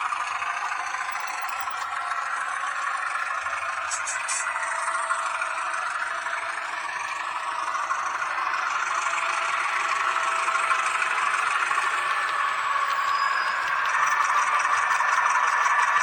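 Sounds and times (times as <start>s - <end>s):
model train whirring on rails: 0.0s - 16.0s.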